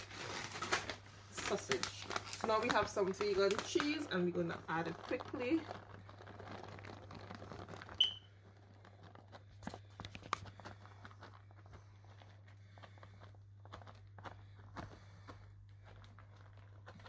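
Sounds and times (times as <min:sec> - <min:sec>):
cheese rustling on food: 0:00.0 - 0:17.0.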